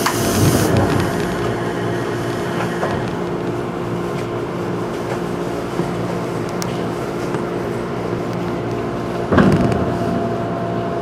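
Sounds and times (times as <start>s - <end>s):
electric train interior hum: 0.0s - 11.0s.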